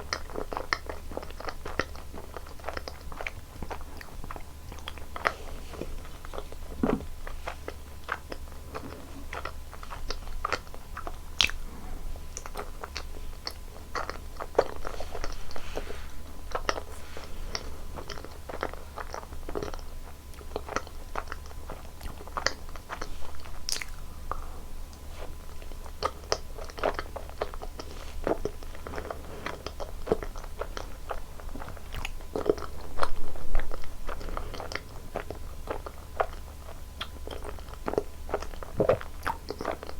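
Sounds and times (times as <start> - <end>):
biting and chewing crunches: 0.0 - 15.6, 16.2 - 39.9.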